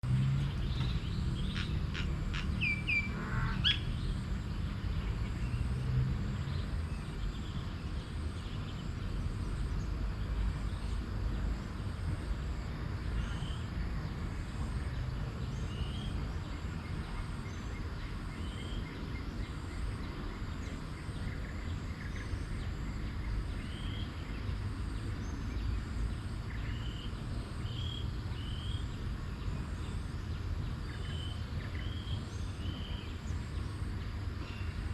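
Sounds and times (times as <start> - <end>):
wild birds chirping: 0.0 - 34.9.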